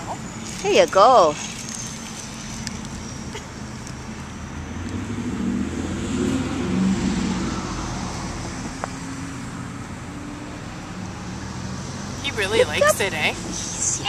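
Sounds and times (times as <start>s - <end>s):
passing vehicle rumble: 0.0s - 14.0s.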